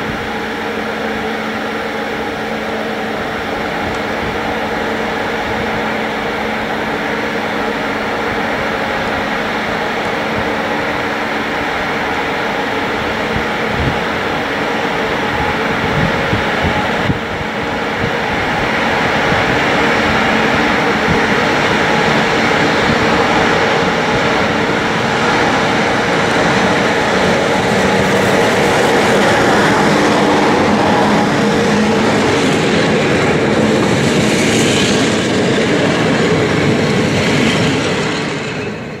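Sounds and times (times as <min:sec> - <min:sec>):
electric locomotive humming: 0:00.0 - 0:39.0
train wheels clattering on rails: 0:00.0 - 0:39.0.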